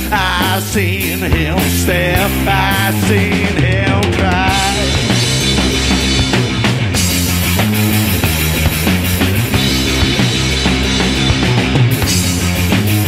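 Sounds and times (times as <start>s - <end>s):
drum kit beat: 0.0s - 13.0s
electric guitar: 0.0s - 13.0s.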